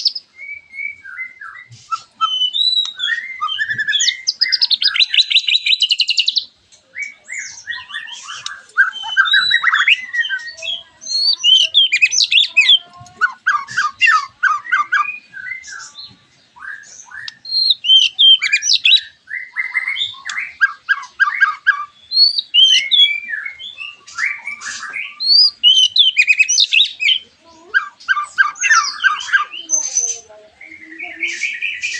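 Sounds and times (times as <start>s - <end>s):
songbirds singing and trilling: 0.0s - 31.9s.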